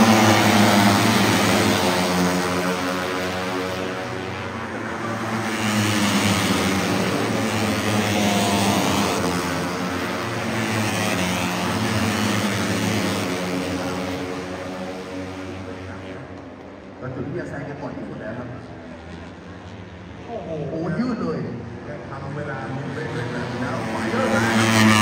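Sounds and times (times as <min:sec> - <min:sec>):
race motorcycles passing at high revs: 0:00.0 - 0:25.0.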